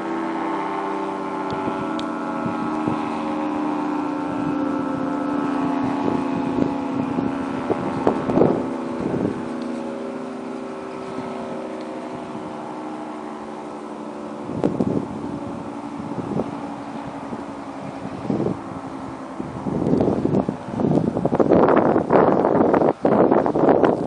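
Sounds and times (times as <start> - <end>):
three-tone siren: 0.0 - 23.8
wind buffeting microphone: 0.0 - 24.0.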